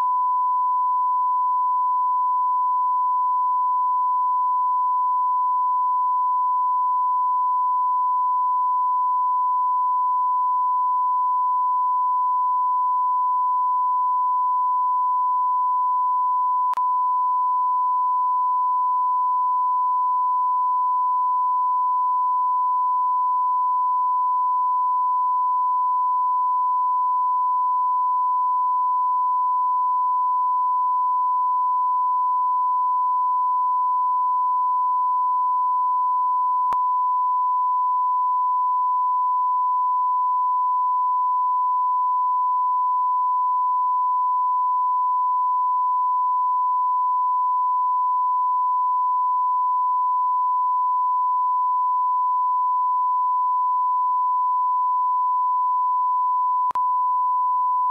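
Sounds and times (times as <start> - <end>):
sine-wave test tone: 0.0 - 57.9.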